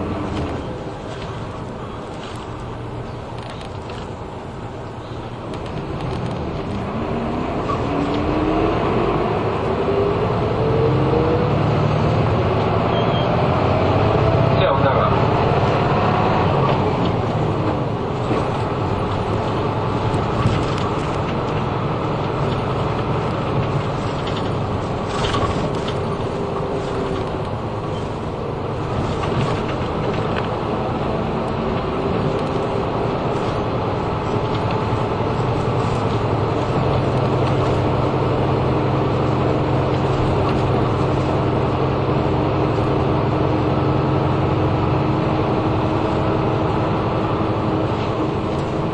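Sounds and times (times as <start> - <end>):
bus engine and road noise: 0.0 - 48.9.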